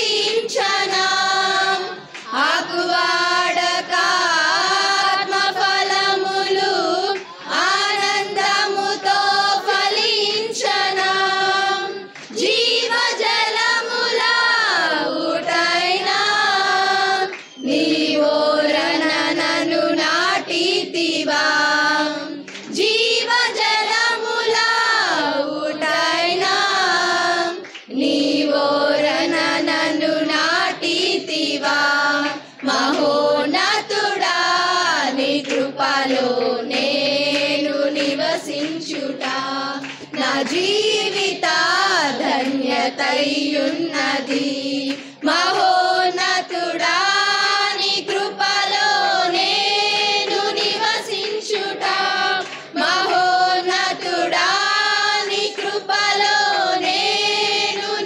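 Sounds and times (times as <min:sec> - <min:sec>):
girls' choir singing: 0:00.0 - 0:58.0.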